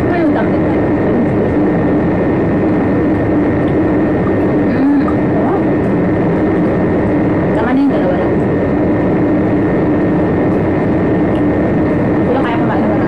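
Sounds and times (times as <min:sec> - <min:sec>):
loud machine drone: 0:00.0 - 0:13.0
low hum: 0:00.0 - 0:13.0.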